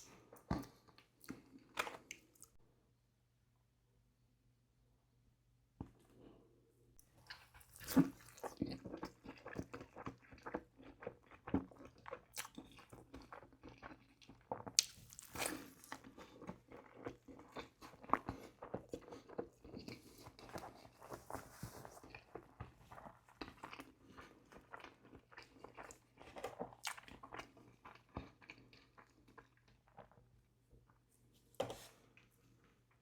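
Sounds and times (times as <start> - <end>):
close chewing and crunching food: 0.0 - 2.6, 7.0 - 31.0.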